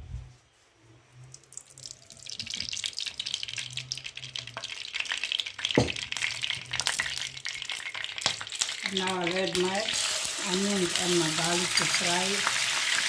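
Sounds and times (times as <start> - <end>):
hot oil sizzling in a pan: 1.3 - 13.0.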